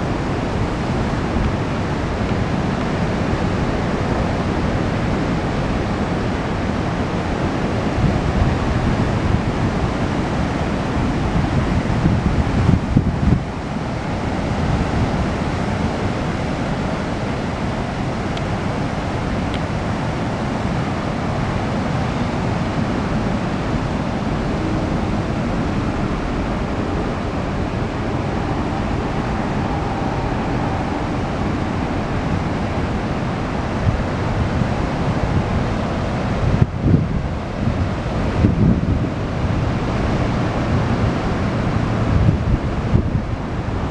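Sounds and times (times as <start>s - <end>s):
waves breaking on beach: 0.0s - 43.9s
wind buffeting microphone: 0.0s - 43.9s.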